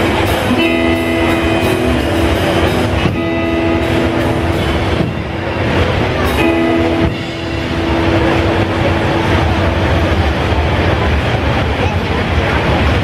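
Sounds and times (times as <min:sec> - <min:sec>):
drums with cymbal wash: 0:00.0 - 0:11.7
bass guitar: 0:00.0 - 0:13.0
electric guitars: 0:00.0 - 0:13.0.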